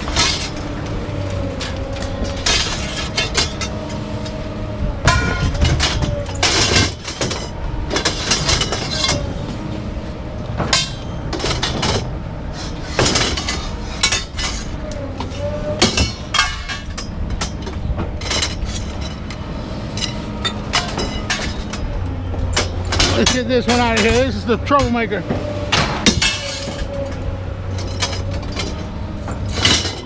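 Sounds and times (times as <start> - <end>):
scrap metal clinking: 0.0 - 0.8, 1.5 - 4.4, 5.0 - 9.4, 10.7 - 30.0.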